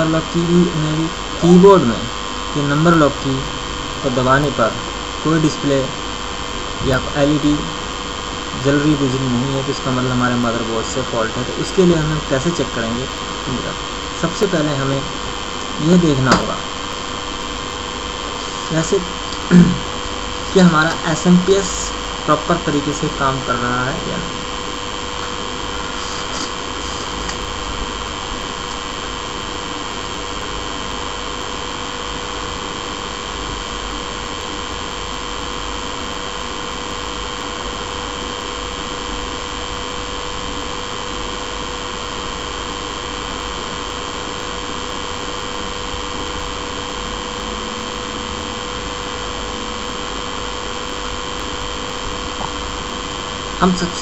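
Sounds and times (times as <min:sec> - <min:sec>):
high whining tones: 0:00.0 - 0:54.0
power supply fan whirring: 0:00.0 - 0:54.0.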